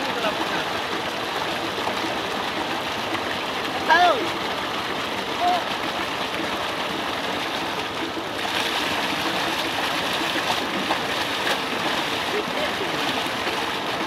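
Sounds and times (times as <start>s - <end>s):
people splashing in water: 0.0s - 14.0s
water gushing from pipe: 0.0s - 14.0s.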